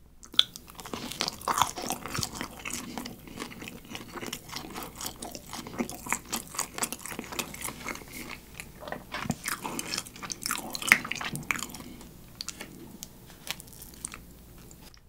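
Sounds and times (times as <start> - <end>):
person chewing pizza: 0.2 - 15.0.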